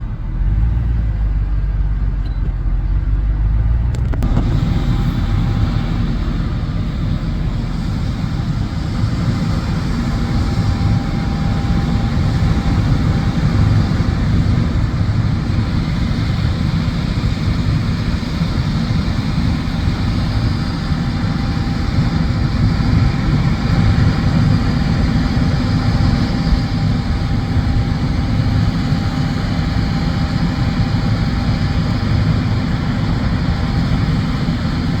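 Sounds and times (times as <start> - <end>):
combine harvester drone: 0.0 - 35.0.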